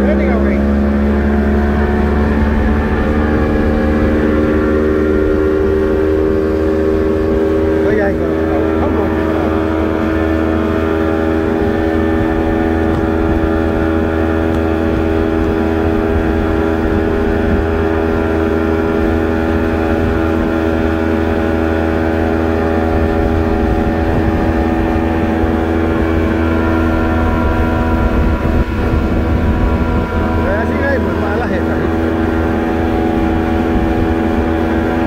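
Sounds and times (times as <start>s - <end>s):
outboard motor running: 0.0s - 35.0s
rushing water and wind: 0.0s - 35.0s.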